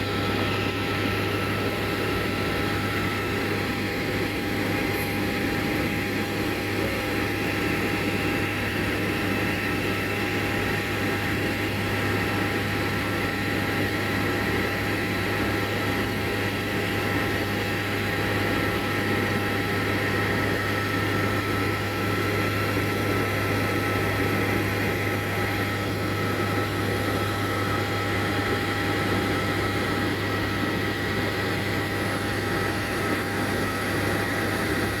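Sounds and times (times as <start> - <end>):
airplane engine and propeller drone: 0.0 - 35.0.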